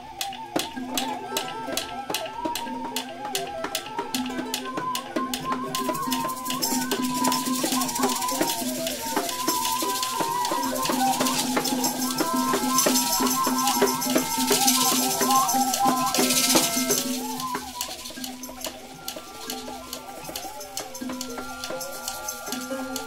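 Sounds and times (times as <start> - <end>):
shaken rattle: 0.1 - 23.0.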